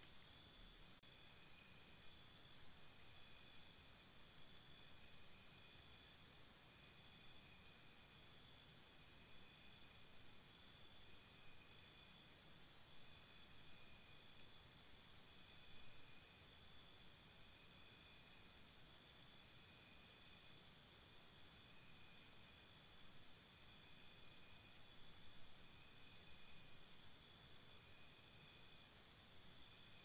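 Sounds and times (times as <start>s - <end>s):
crickets chirping in pulsed runs: 0.0s - 30.0s.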